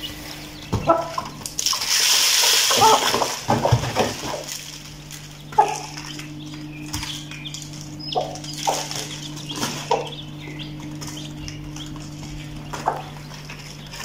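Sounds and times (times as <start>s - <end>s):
chicks peeping: 0.0s - 14.0s
steady low hum: 0.0s - 14.0s.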